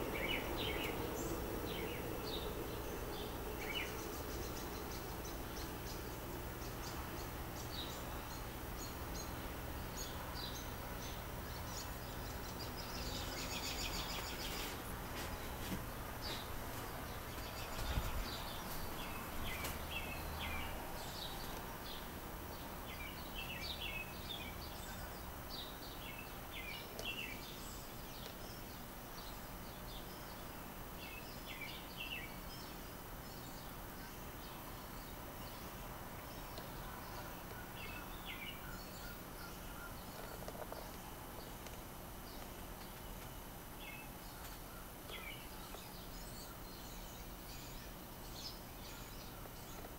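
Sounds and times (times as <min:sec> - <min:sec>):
ceiling fan humming: 0:00.0 - 0:49.9
small birds chirping: 0:00.0 - 0:49.9.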